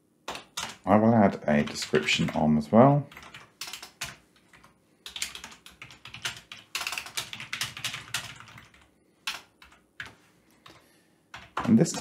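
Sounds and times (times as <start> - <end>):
computer keyboard typing: 0.3 - 0.9, 1.5 - 2.5, 3.1 - 12.0.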